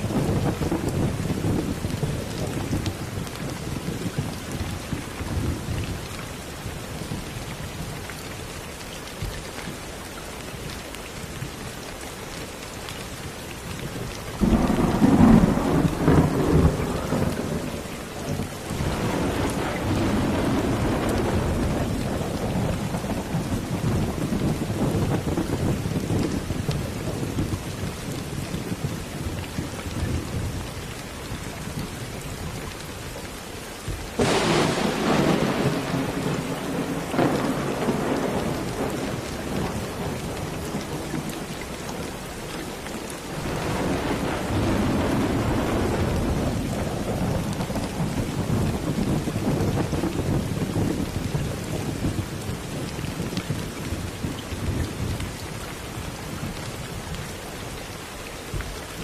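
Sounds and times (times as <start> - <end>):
thunder clap and rumble: 0.0 - 8.0, 13.7 - 30.7, 33.9 - 42.2, 43.1 - 57.2
steady rain: 0.0 - 59.0.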